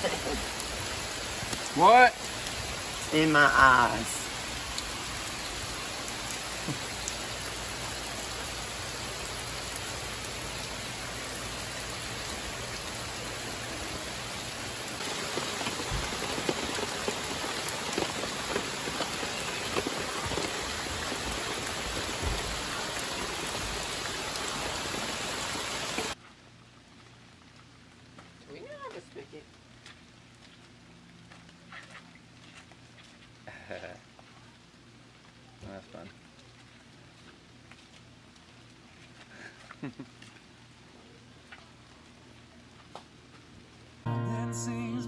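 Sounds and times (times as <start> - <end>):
steady rain hiss: 0.0 - 31.3, 33.3 - 45.0.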